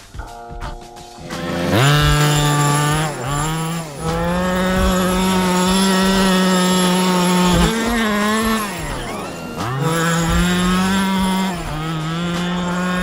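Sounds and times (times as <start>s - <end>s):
two-stroke engine revving high: 0.8s - 13.0s.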